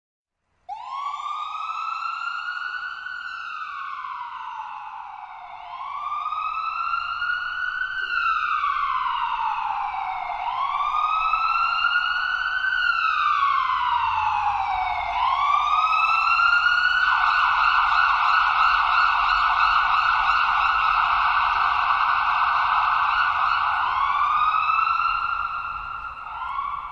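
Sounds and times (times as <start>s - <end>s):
ambulance siren: 0.7s - 26.9s.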